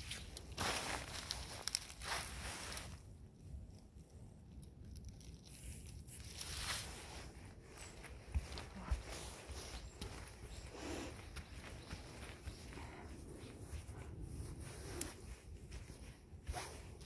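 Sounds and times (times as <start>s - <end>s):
leaves rustling under bare feet: 0.0s - 3.1s, 4.9s - 17.0s.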